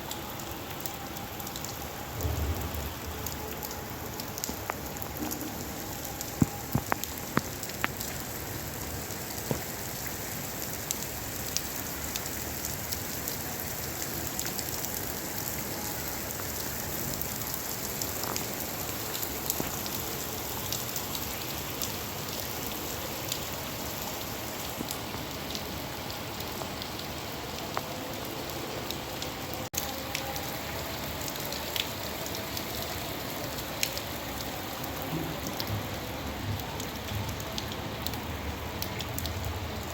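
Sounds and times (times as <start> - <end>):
raindrops ticking on surface: 0.0 - 39.9
steady rain hiss: 0.0 - 39.9.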